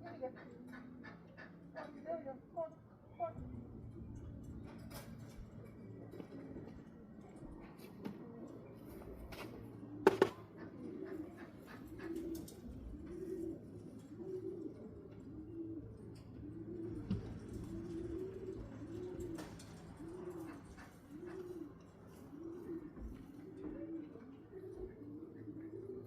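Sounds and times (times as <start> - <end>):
pigeon cooing: 0.0 - 26.0.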